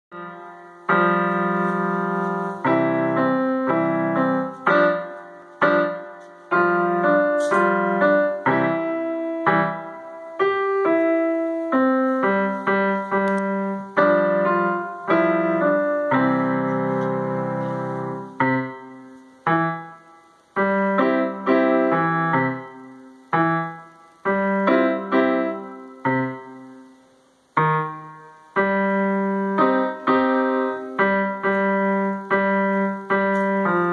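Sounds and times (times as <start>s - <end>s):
digital piano piece: 0.1s - 33.9s.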